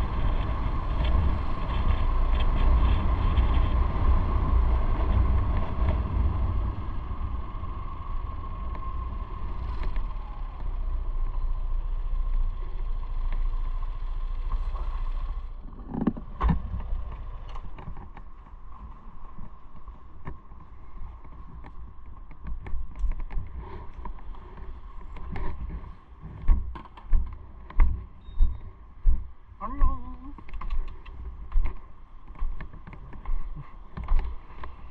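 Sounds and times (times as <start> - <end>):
motorcycle running: 0.0 - 28.6
wind rumble on microphone: 0.0 - 34.9.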